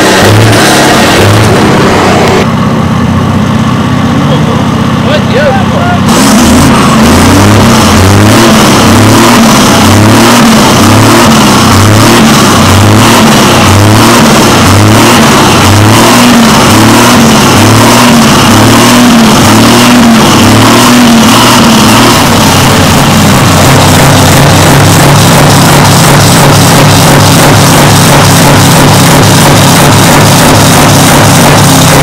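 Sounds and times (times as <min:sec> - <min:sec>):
truck diesel engine revving: 0:00.0 - 0:32.0.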